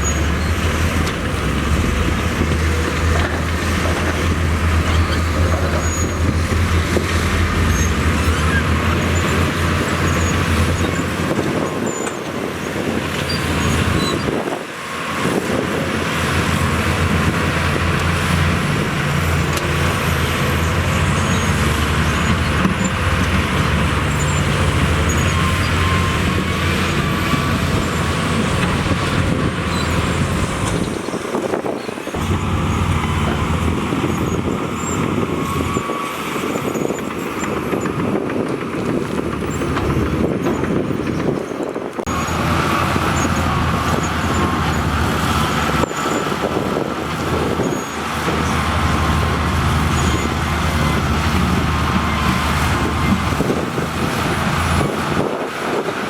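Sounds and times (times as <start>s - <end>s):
diesel earthmoving machinery working: 0.0s - 56.0s.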